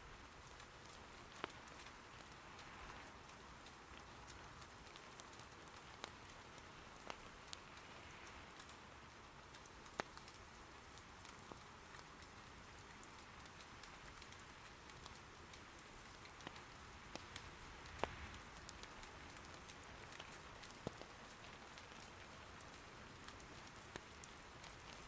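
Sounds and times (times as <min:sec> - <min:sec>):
soft steady rain: 0:00.0 - 0:25.0
burning wood popping: 0:00.4 - 0:25.0.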